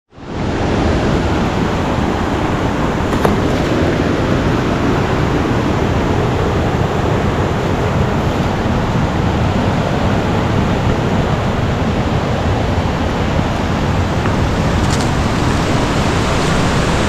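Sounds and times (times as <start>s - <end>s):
water rushing over rocks: 0.2s - 17.0s.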